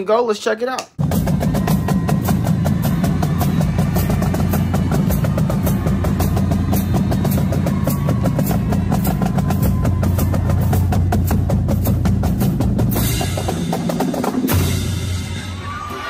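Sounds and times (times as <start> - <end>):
marching snare and bass drums: 1.0 - 15.6.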